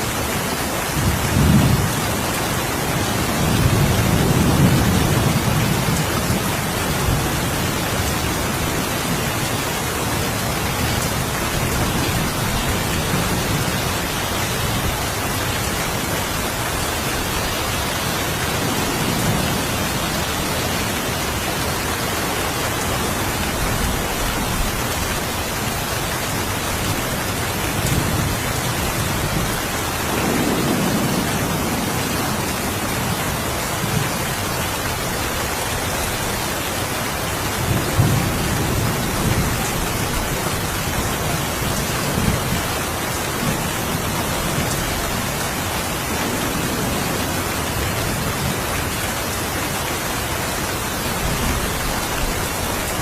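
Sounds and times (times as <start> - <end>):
steady rain falling: 0.0 - 53.0
thunder rumbling: 0.9 - 21.9, 22.9 - 34.8, 37.5 - 49.0.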